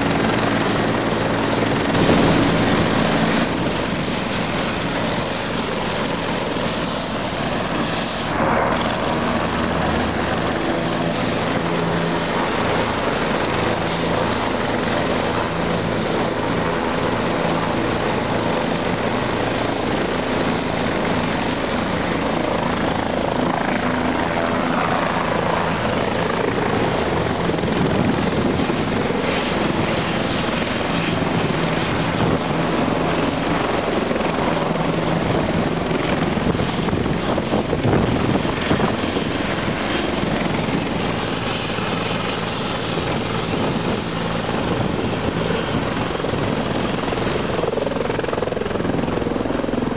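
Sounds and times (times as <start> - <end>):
helicopter turbine and rotor: 0.0 - 49.9.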